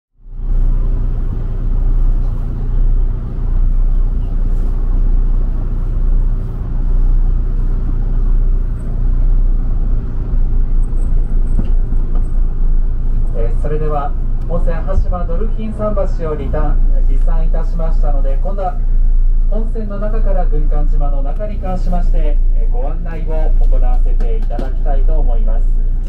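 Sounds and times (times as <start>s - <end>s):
boat engine droning: 0.1s - 26.0s.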